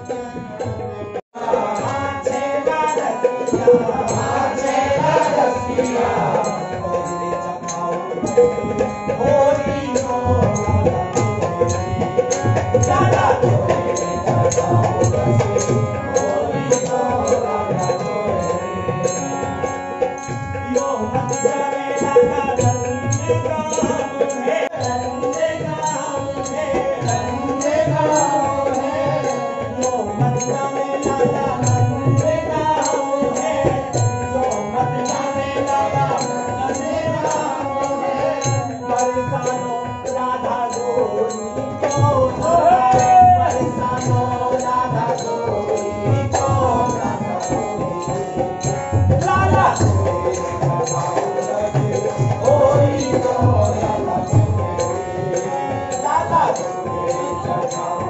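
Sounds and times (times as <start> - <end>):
group devotional singing: 0.0 - 58.0.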